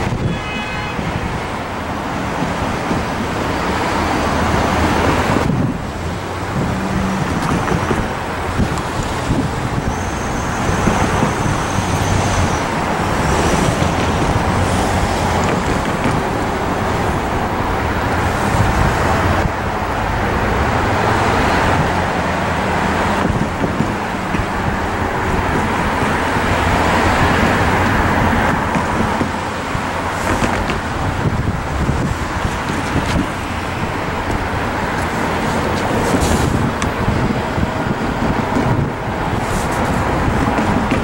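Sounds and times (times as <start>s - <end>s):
diesel locomotive drone: 0.0s - 41.0s
train wheels rumbling on rail: 0.0s - 41.0s.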